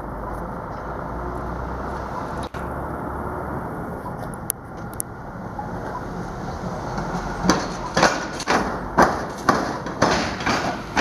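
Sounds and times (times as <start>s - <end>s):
rail vehicle rumble: 0.0s - 11.0s
wheels clunking over rail crossing: 0.0s - 11.0s.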